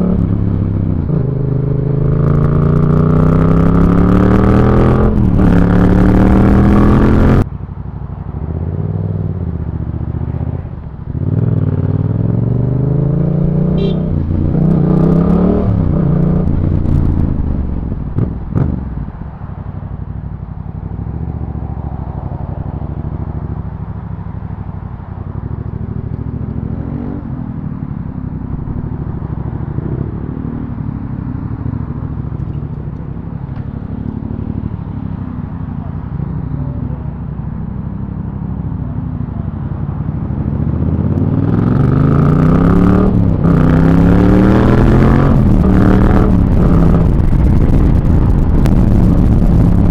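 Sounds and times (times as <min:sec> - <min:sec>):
motorcycle engine accelerating: 0:00.0 - 0:07.5, 0:08.4 - 0:19.2, 0:20.8 - 0:49.9
road and wind noise: 0:00.0 - 0:49.9.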